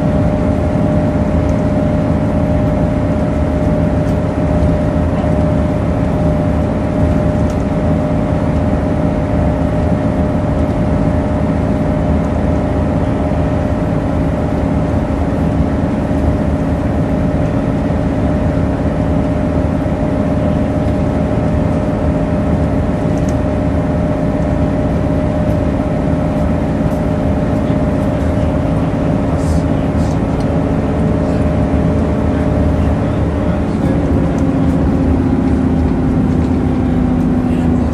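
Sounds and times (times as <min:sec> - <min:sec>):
bus engine drone: 0:00.0 - 0:37.9
steady whine: 0:00.0 - 0:37.9.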